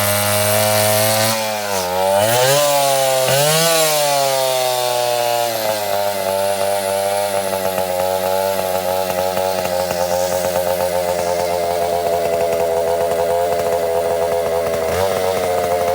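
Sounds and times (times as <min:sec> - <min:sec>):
chainsaw running at high revs: 0:00.0 - 0:15.9.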